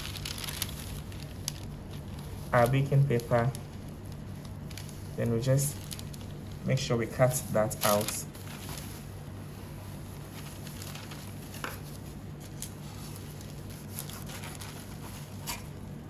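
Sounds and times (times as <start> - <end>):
baking paper and gloves rustling: 0.0 - 16.0.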